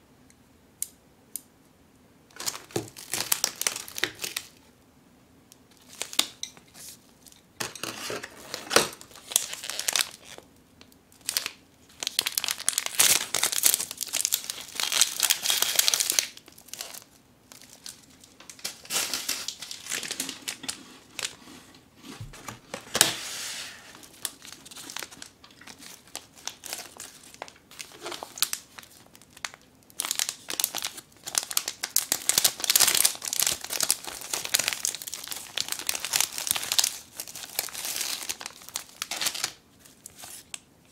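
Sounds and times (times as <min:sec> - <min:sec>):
plastic wrappers crinkling: 0:02.3 - 0:04.6, 0:05.7 - 0:23.2, 0:23.8 - 0:40.7.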